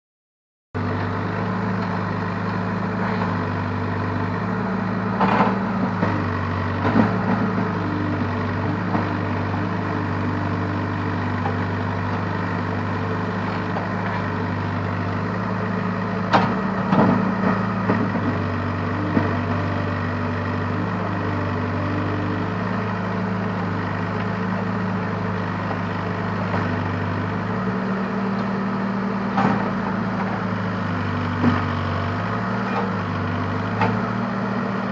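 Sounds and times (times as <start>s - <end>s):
diesel engine running: 0.8s - 34.9s.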